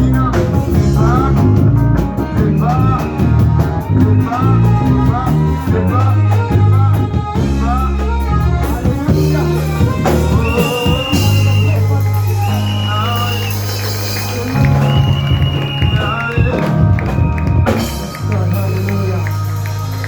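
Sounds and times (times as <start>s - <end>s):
live worship band music: 0.0s - 20.0s
loud bass line: 0.0s - 20.0s.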